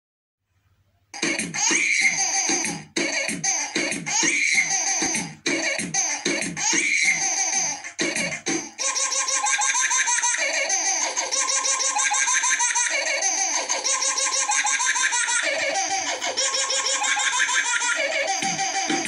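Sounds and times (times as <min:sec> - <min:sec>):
high chirping vocal line: 0:01.0 - 0:19.0
dance music: 0:01.2 - 0:19.0.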